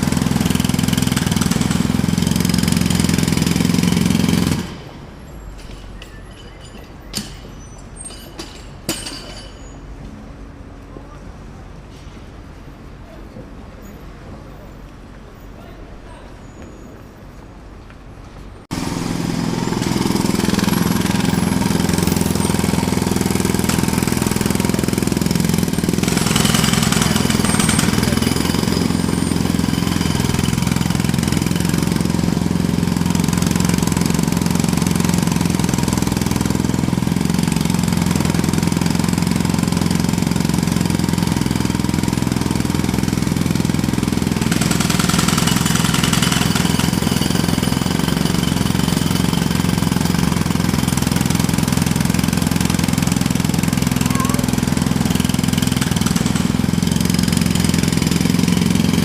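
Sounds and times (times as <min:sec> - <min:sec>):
jackhammer hammering: 0:00.0 - 0:09.7, 0:18.7 - 0:59.0.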